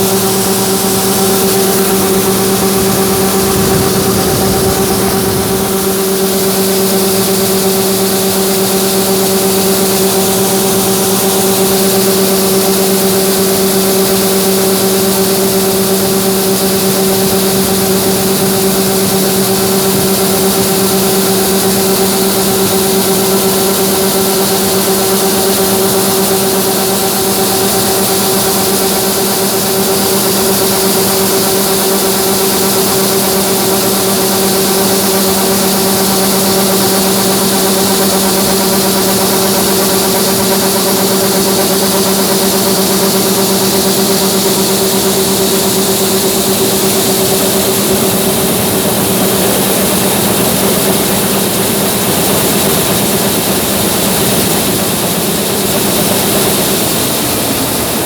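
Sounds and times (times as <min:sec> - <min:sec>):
diesel farm machinery drone: 0:00.0 - 0:58.0.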